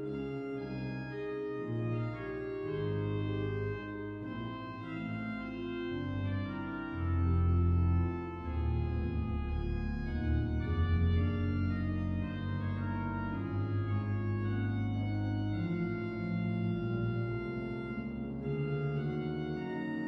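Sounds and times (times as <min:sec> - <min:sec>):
pipe organ playing slowly: 0:00.0 - 0:20.0.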